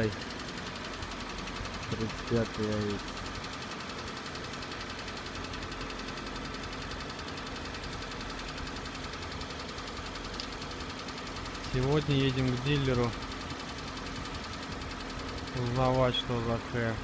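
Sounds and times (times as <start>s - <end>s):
engine running with knocking: 0.0s - 17.0s.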